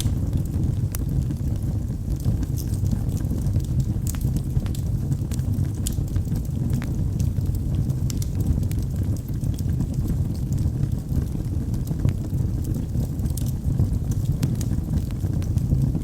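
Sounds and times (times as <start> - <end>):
fire rumbling: 0.0 - 16.0
logs crackling and popping: 0.0 - 16.0.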